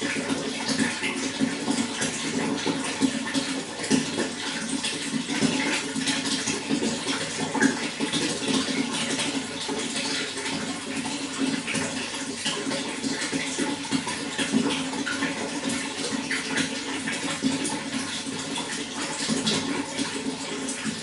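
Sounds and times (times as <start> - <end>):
running water splashing: 0.0 - 21.0.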